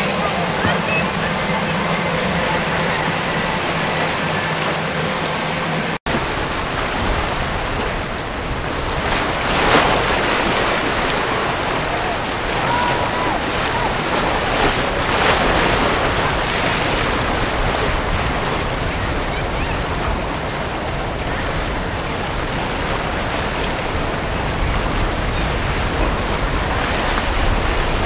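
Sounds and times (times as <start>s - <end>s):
water rushing and splashing: 0.0s - 28.0s
wind buffeting microphone: 0.0s - 28.0s.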